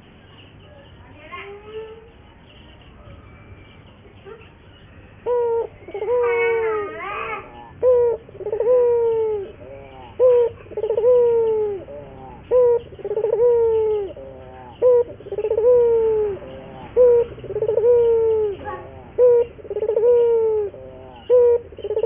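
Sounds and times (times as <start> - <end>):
dove cooing: 4.0 - 22.0.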